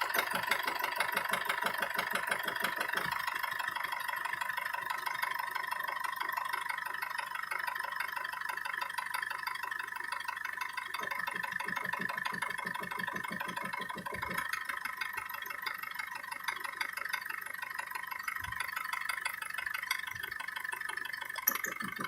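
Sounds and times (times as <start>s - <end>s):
diesel engine knocking: 0.0s - 22.0s.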